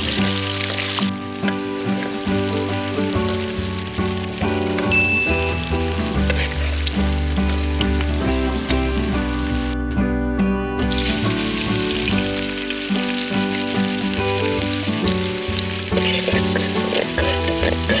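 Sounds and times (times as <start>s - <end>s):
tofu sizzling in oil: 0.0s - 9.8s, 10.9s - 18.0s
background music: 0.0s - 18.0s.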